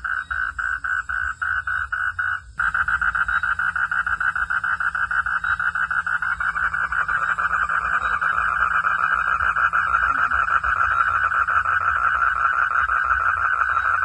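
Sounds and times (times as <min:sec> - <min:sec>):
animals pulsing night chorus: 0:00.0 - 0:14.0.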